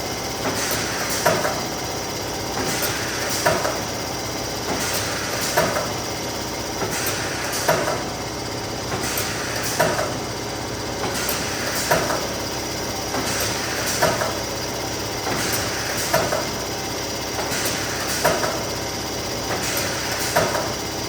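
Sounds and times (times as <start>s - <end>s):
laminator running: 0.0s - 21.0s.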